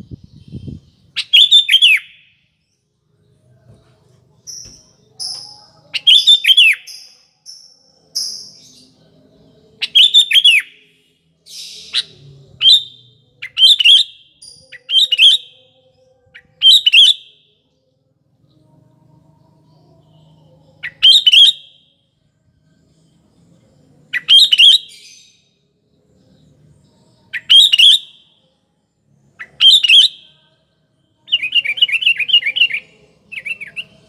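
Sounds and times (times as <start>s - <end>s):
bird singing whistled notes: 0.0s - 3.6s, 4.4s - 17.6s, 19.6s - 22.0s, 22.8s - 30.6s, 31.2s - 34.0s.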